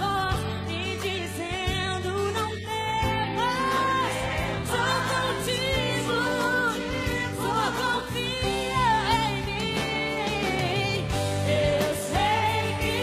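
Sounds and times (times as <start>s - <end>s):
woman singing ballad: 0.0s - 13.0s.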